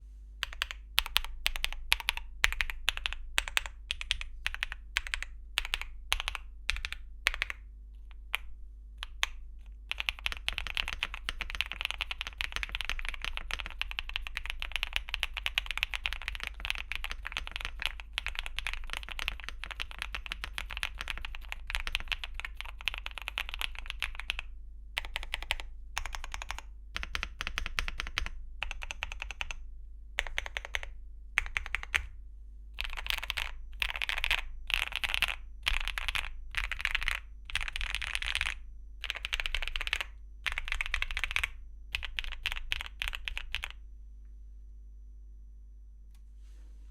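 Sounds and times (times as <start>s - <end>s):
mechanical keyboard typing: 0.4s - 29.6s, 30.2s - 32.1s, 32.8s - 43.8s.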